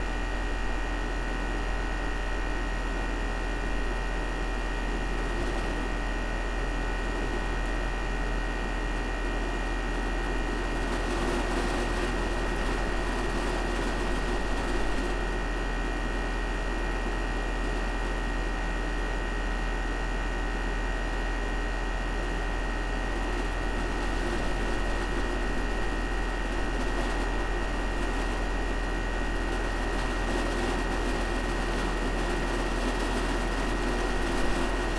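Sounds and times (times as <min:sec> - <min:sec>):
air conditioner condenser running: 0:00.0 - 0:34.9.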